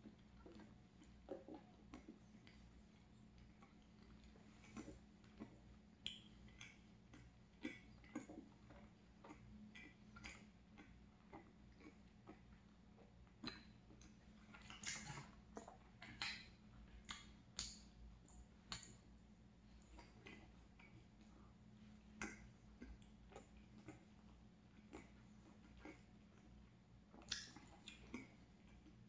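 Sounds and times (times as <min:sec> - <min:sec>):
low steady hum: 0:00.0 - 0:29.0
wet mouth clicks chewing: 0:00.0 - 0:29.0.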